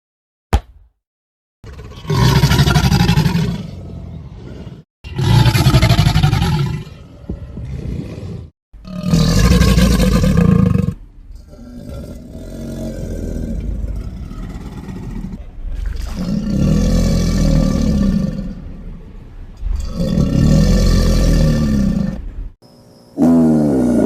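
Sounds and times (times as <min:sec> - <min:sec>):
alligator growl: 0:01.6 - 0:22.4, 0:23.2 - 0:24.0
alligator roaring: 0:01.7 - 0:22.4, 0:23.2 - 0:24.0.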